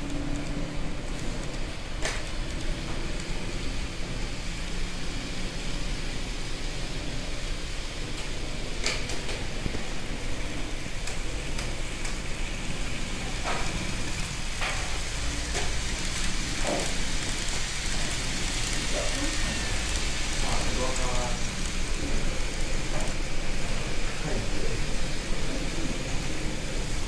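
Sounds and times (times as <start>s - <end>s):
model trains rolling on track: 0.0s - 27.0s.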